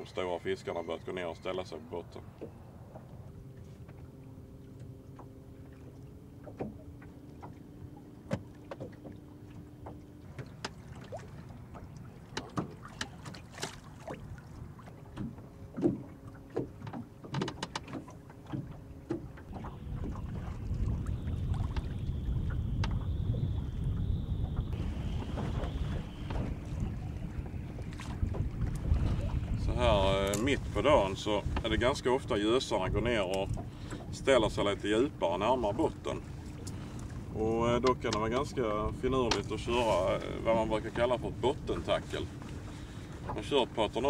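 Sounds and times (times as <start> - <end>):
boat motor hum: 0.0 - 44.0
rush of wind and water: 0.0 - 44.0
water slapping against hull: 0.0 - 44.0.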